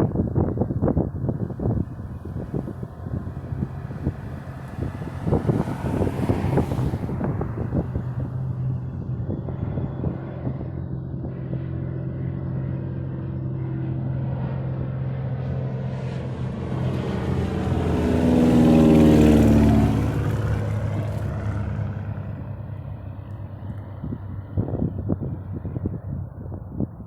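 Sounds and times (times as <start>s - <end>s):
airplane engine drone: 0.0s - 27.0s.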